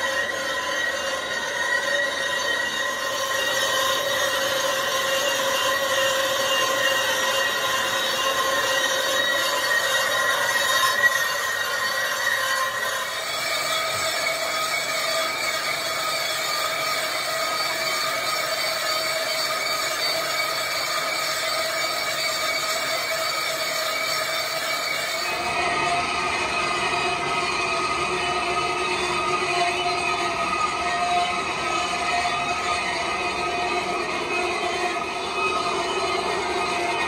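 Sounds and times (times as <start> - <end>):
high metallic machine whine: 0.0 - 37.0.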